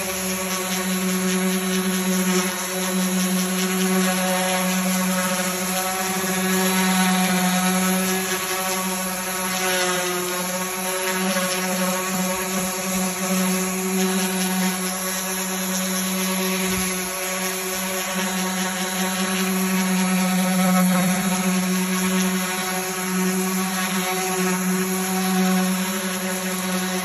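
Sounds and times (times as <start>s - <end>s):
electric sander humming: 0.0s - 27.0s.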